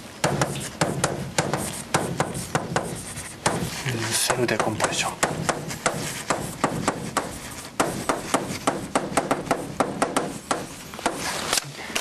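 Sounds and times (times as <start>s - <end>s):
chalk tapping and scraping on blackboard: 0.0s - 11.5s.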